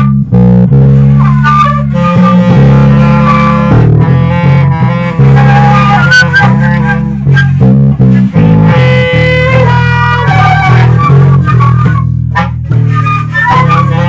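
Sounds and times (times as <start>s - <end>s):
electric bass line: 0.0s - 14.0s
improvised band music: 0.0s - 14.0s.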